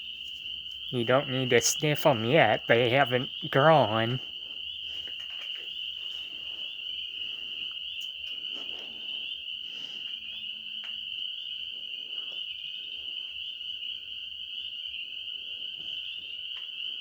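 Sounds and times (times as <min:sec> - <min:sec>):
frogs calling: 0:00.0 - 0:17.0
insects trilling: 0:00.0 - 0:17.0.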